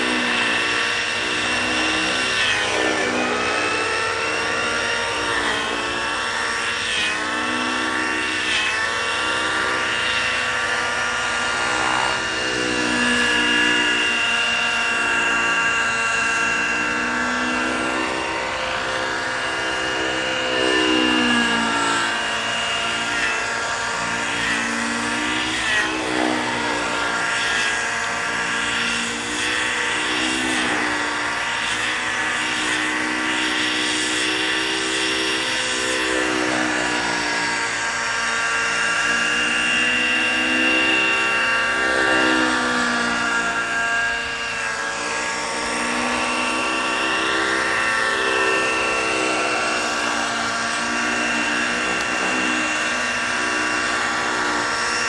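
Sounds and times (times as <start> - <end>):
model helicopter engine and rotor: 0.0 - 55.0.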